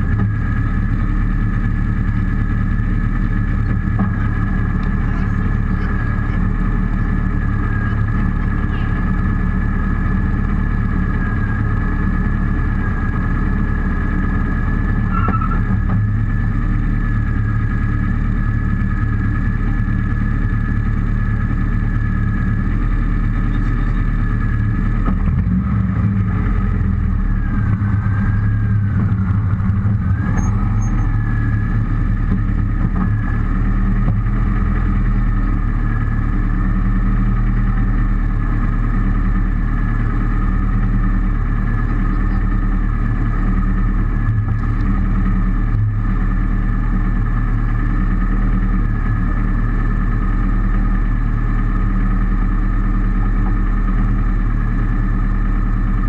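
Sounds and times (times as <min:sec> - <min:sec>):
car engine idling: 0:00.0 - 0:56.0
high whine: 0:00.0 - 0:56.0.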